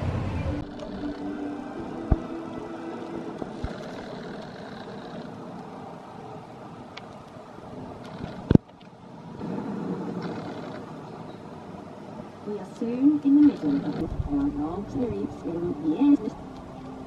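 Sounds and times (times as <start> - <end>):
roller coaster rumbling: 0.0 - 17.0.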